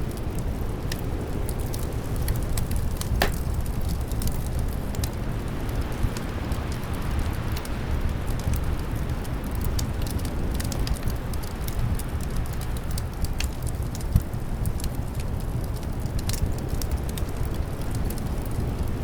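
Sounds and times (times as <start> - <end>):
low rumble of wind: 0.0 - 19.0
wood fire crackling and popping: 0.1 - 19.0.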